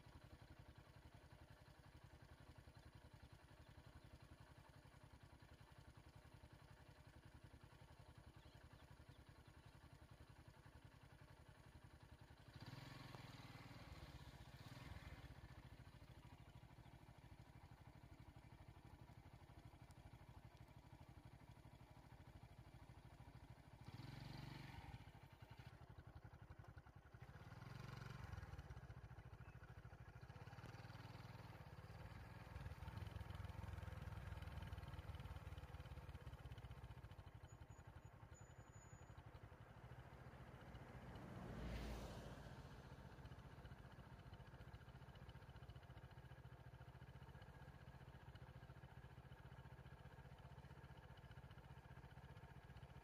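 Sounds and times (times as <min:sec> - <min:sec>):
faint vehicle engine rumble: 0:00.0 - 0:53.0.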